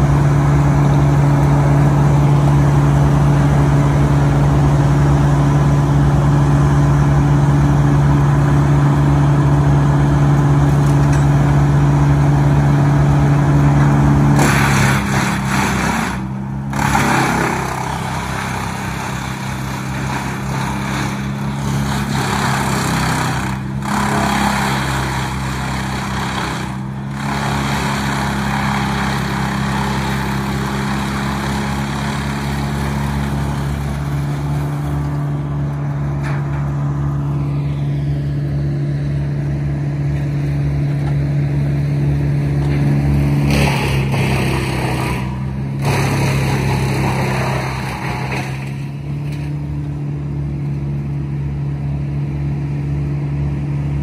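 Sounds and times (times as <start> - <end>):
wood chipper engine running: 0.0 - 54.0.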